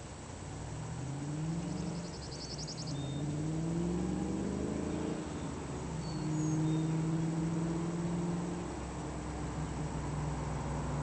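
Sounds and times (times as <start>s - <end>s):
distant car exhaust accelerating: 0.0s - 11.0s.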